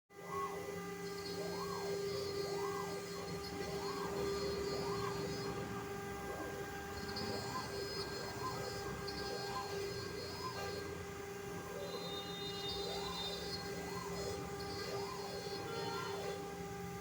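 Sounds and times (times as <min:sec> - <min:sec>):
cnc router motor whine: 0:00.2 - 0:17.0
stepper motors whining: 0:00.2 - 0:17.0.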